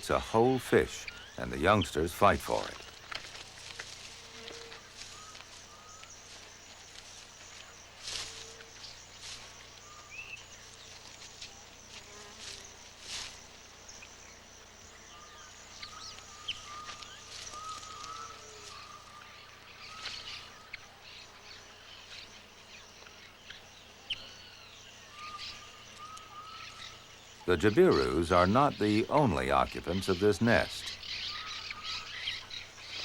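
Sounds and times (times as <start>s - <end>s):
bird calls: 0.0s - 33.0s.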